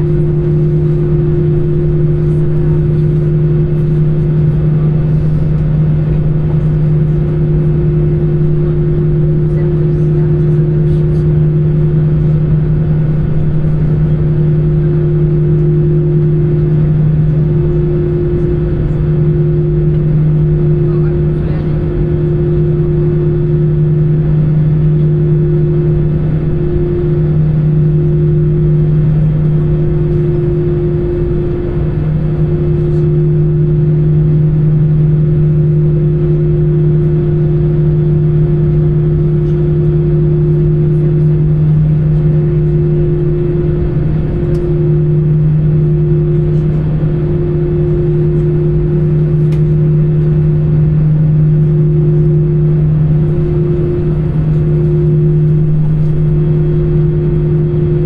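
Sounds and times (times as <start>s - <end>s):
jet engines and airflow drone: 0.0s - 58.0s.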